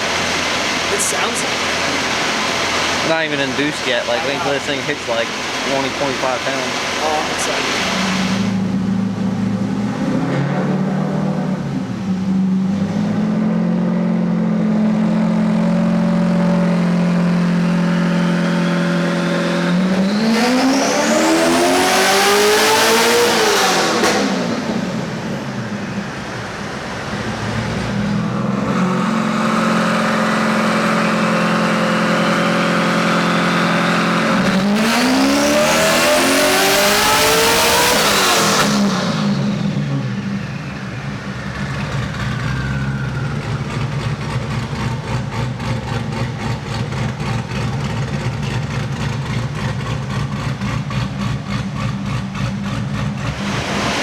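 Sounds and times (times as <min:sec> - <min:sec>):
car engine full-throttle revving: 0:00.0 - 0:54.0.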